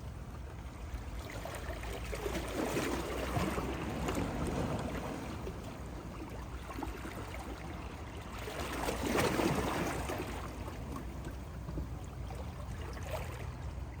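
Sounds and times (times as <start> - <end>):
sea water washing and trickling: 0.0 - 14.0.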